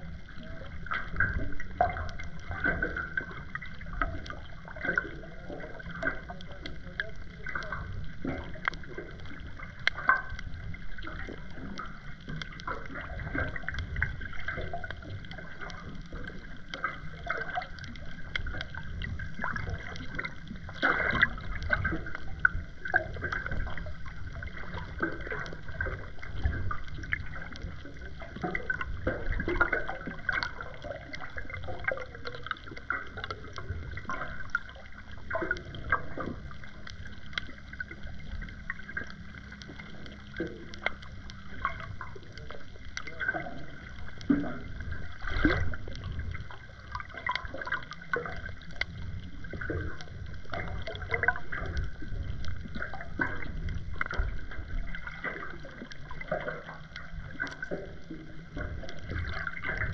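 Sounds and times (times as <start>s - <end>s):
faint clicks and crackles: 0.0s - 59.9s
muffled underwater rumble: 0.0s - 59.9s.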